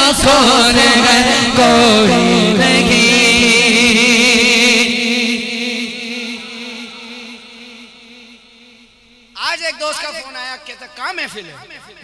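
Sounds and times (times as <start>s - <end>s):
man singing through loudspeakers: 0.0s - 8.4s, 9.4s - 12.0s
echo of voice: 0.0s - 12.0s.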